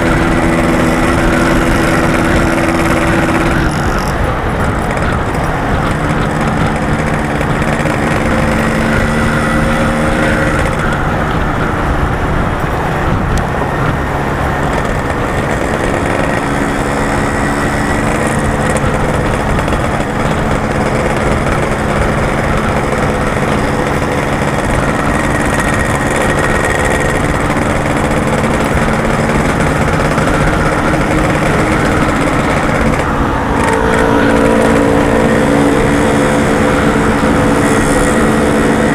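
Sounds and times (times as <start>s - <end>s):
road noise: 0.0s - 38.9s
two-stroke motorcycle engine: 0.0s - 38.9s.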